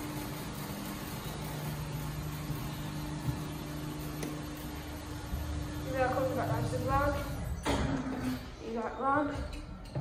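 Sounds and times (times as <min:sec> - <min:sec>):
lift motor humming: 0:00.0 - 0:08.6.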